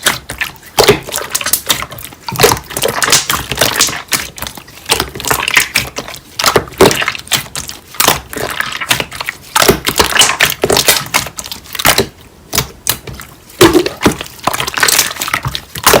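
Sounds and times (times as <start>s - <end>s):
slime crackling and popping: 0.0s - 16.0s.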